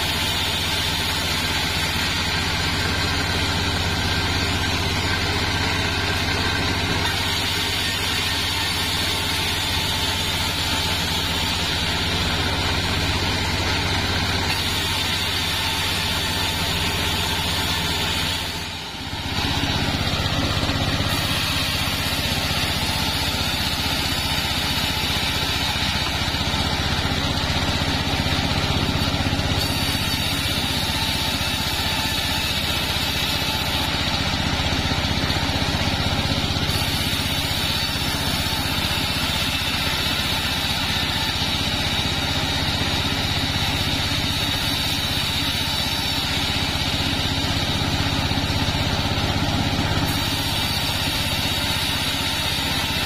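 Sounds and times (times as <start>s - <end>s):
bandsaw mill engine drone: 0.0s - 53.0s.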